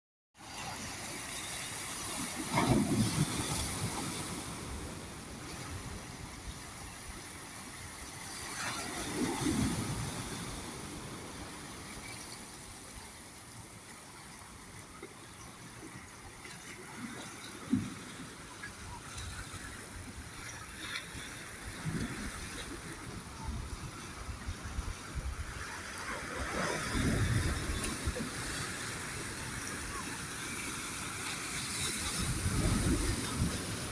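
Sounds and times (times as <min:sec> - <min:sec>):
sea waves washing in: 0:00.4 - 0:33.9.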